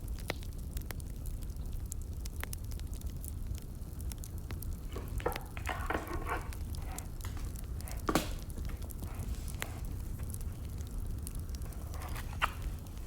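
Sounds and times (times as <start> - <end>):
firewood crackling and popping: 0.0 - 13.0
low fire rumble: 0.0 - 13.0.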